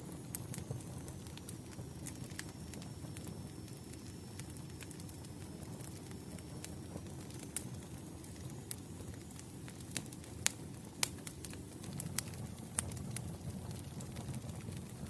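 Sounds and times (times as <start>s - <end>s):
low rumble of flames: 0.0s - 15.0s
burning logs popping and snapping: 0.1s - 15.0s.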